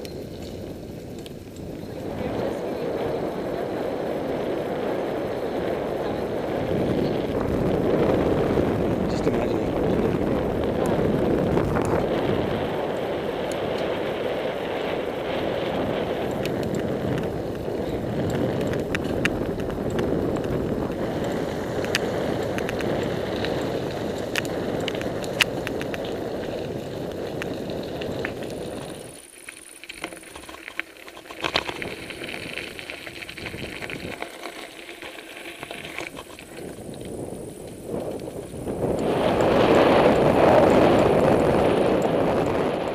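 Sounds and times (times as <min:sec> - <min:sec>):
bike rattling clicks: 0:00.0 - 0:08.6, 0:11.6 - 0:42.9
wind on microphone: 0:00.0 - 0:29.2, 0:31.2 - 0:34.3, 0:35.6 - 0:42.9
bicycle tyre rumble: 0:00.0 - 0:42.9.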